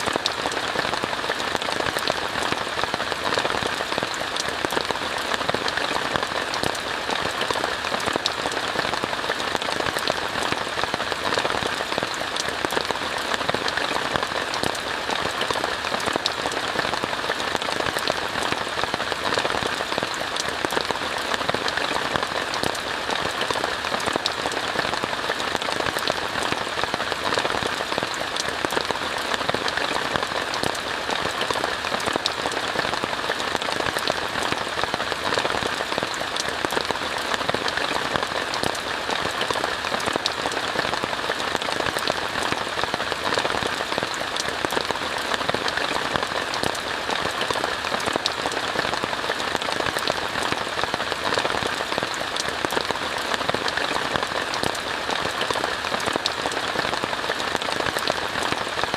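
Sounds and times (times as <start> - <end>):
rain on a tent: 0.0 - 58.9.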